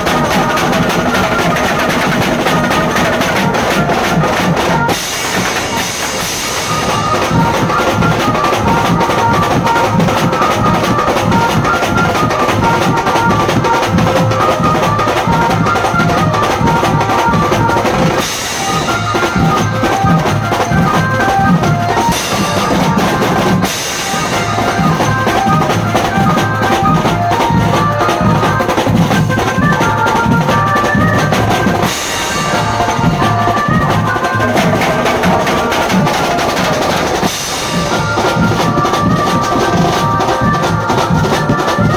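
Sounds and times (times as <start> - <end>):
drum-led band music: 0.0 - 41.9
heavy bass drum and snare: 0.0 - 41.9
melodic lead line: 0.0 - 41.9.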